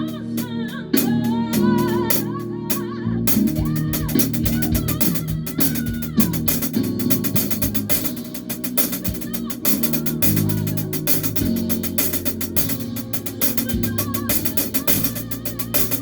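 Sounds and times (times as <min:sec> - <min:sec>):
drum kit cymbal and snare: 0:00.0 - 0:16.0
person singing: 0:00.0 - 0:16.0.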